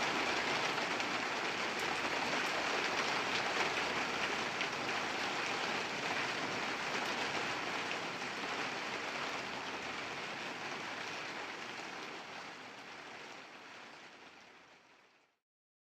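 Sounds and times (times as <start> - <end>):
rain pattering on a surface: 0.0 - 15.4.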